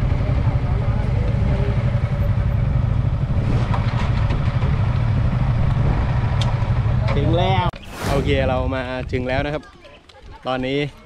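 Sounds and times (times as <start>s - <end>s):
motorcycle engine rumbling: 0.0s - 9.4s.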